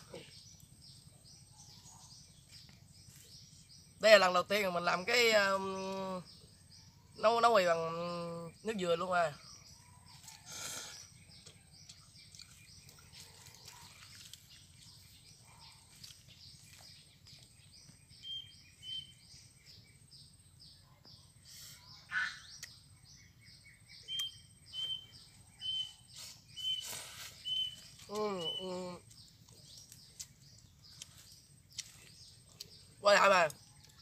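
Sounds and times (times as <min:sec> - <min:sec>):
small bird chirps: 0:00.0 - 0:34.0.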